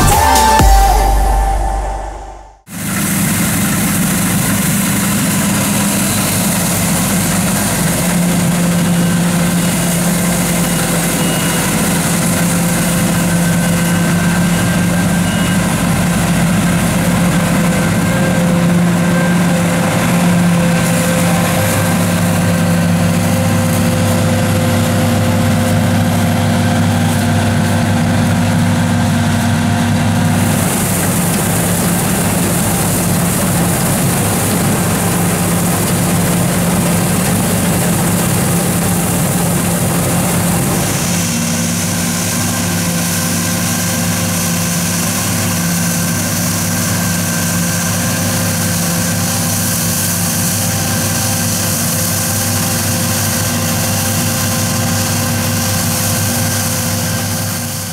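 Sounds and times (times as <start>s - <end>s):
combine harvester engine drone: 0.0s - 57.9s.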